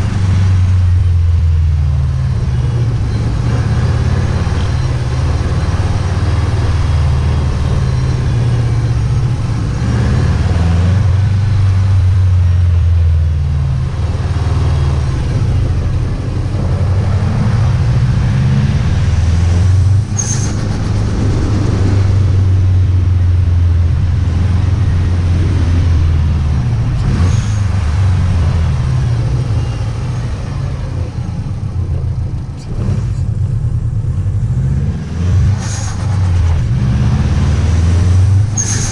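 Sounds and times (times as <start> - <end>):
car engine and exhaust: 0.0 - 38.9.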